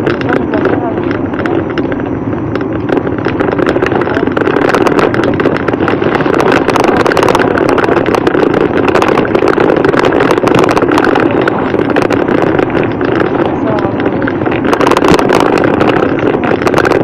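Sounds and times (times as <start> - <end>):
bicycle rumbling on rough lane: 0.0 - 17.0
bike rattles and clicks: 0.0 - 17.0.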